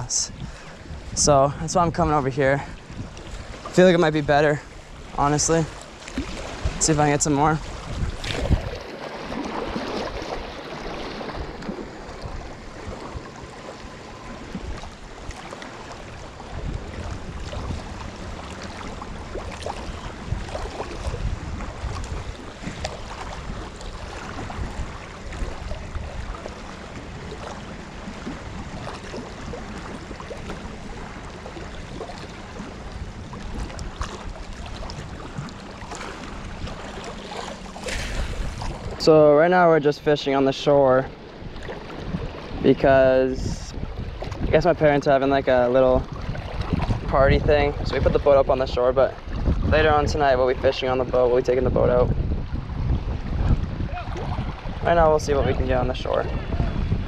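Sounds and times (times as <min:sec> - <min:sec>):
small waves lapping on rocks: 0:00.0 - 0:51.5
wind buffeting microphone: 0:00.0 - 0:57.0.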